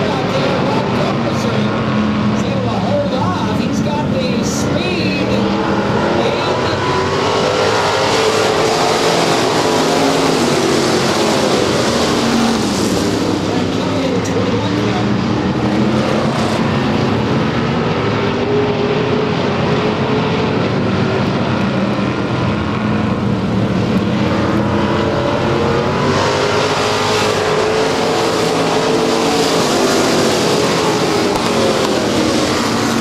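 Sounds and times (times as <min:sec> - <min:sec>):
race car engines racing: 0:00.0 - 0:33.0.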